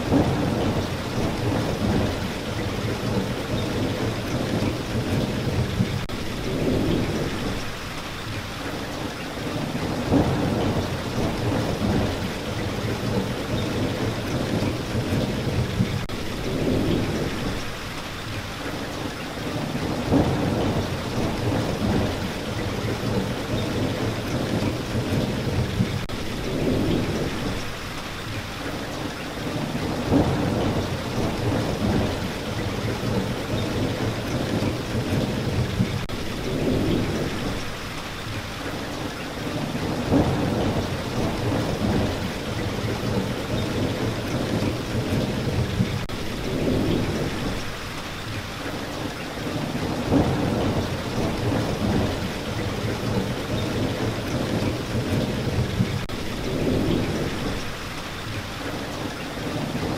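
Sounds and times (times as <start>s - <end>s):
low rolling thunder: 0.0s - 7.9s, 9.4s - 17.8s, 19.4s - 27.8s, 29.4s - 37.9s, 39.0s - 47.8s, 49.4s - 57.8s
rain falling: 0.0s - 59.9s.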